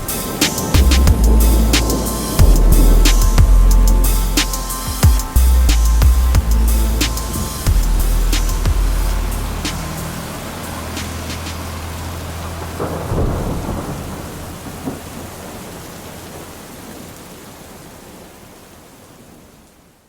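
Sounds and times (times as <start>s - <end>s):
thunder rolling: 0.0s - 17.1s
steady rain: 0.0s - 20.0s.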